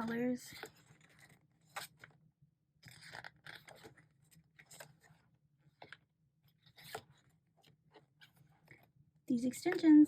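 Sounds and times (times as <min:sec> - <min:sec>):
paper pages rustling: 0:00.0 - 0:02.2, 0:02.8 - 0:08.9.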